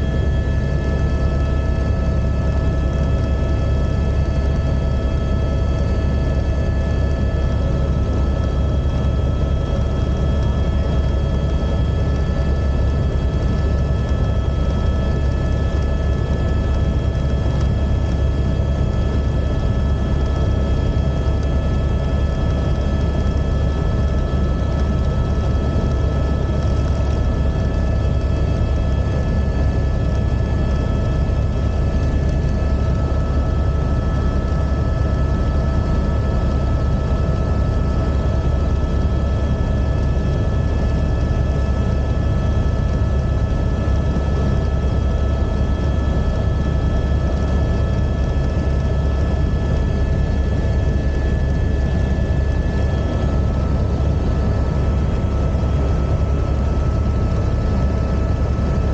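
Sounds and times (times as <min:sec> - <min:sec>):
helicopter drone: 0:00.0 - 0:58.9.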